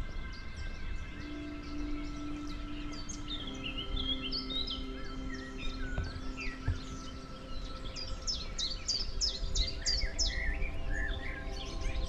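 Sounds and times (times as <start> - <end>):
small songbirds singing: 0.0 - 12.0.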